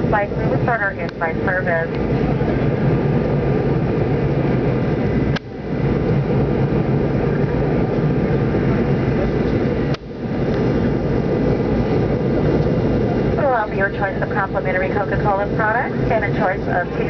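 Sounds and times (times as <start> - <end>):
jet airliner cabin noise: 0.0 - 17.0.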